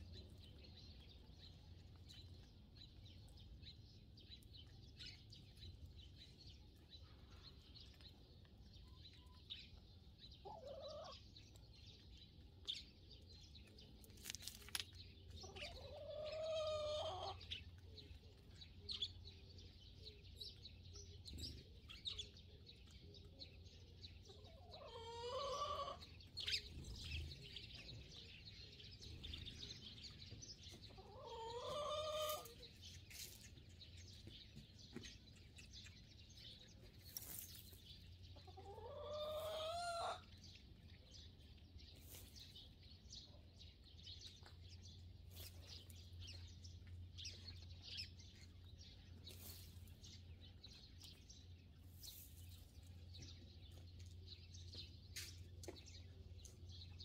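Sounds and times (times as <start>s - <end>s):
faint sparrow chirping: 0.0s - 57.0s.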